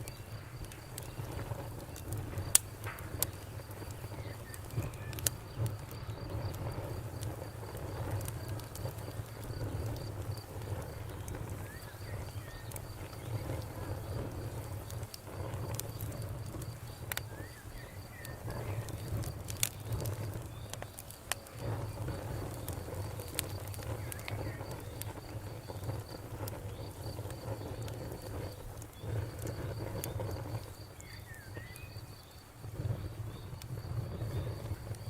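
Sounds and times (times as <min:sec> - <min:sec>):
campfire crackling and popping: 0:00.0 - 0:35.0
cricket chirping: 0:00.0 - 0:35.0.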